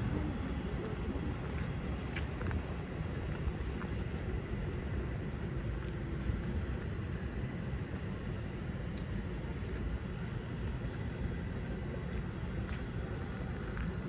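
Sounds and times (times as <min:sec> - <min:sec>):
low rumble of city ambience: 0:00.0 - 0:14.0.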